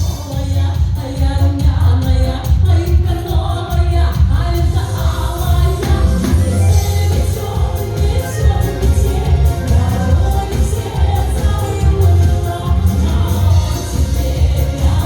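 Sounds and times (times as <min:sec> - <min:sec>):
backing track with heavy bass beat: 0:00.0 - 0:15.0
woman singing: 0:00.0 - 0:15.0.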